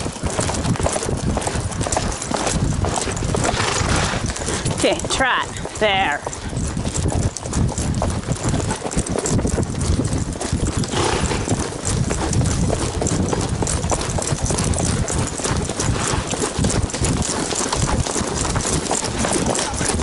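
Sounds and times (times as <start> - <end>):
horse hooves trotting on dirt: 0.0 - 20.0.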